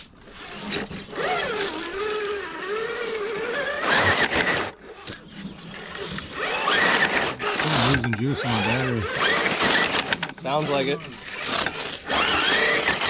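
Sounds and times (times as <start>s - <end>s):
electric toy truck motor whining: 0.0s - 13.0s
loud scraping burst: 0.0s - 13.0s.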